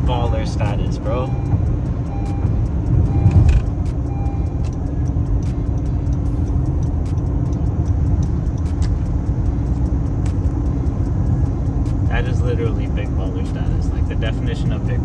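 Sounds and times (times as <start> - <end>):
car engine drone: 0.0 - 15.0
road rumble: 0.0 - 15.0.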